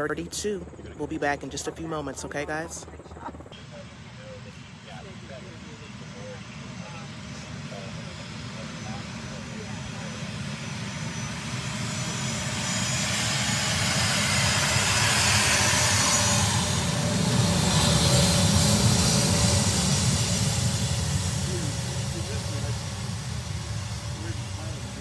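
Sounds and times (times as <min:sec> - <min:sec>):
military aircraft engines: 0:00.0 - 0:25.0.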